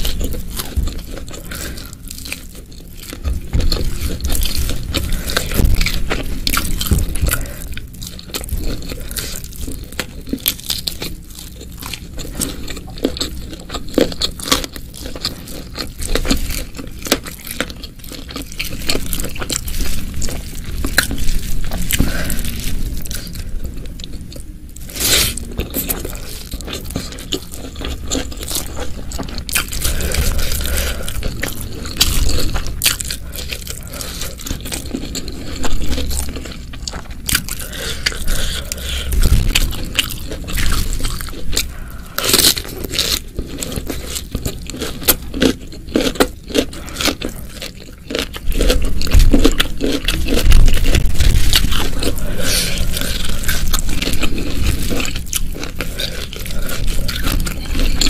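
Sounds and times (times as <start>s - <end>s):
crunching and wet chewing: 0.0s - 58.0s.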